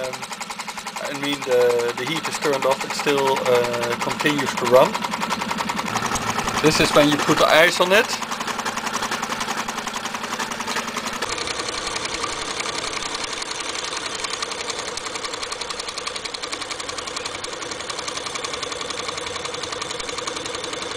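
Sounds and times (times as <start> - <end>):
engine rapid mechanical clatter: 0.0 - 20.9.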